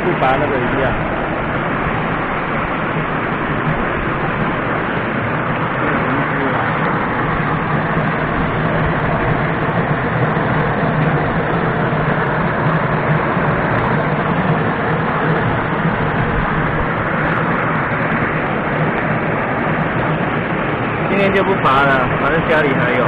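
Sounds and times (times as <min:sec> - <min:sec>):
stream rushing over rocks: 0:00.0 - 0:23.0
wind buffeting microphone: 0:00.0 - 0:23.0.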